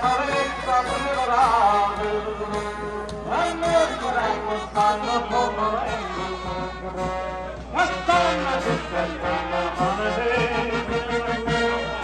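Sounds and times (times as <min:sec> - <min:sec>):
brass band playing: 0:00.0 - 0:12.0
man singing into a microphone: 0:00.0 - 0:12.0.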